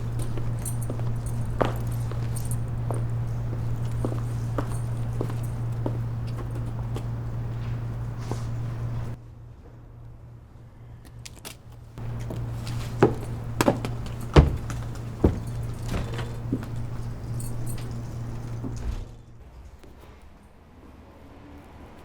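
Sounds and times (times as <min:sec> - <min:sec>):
low steady hum: 0:00.0 - 0:10.8, 0:12.0 - 0:19.4.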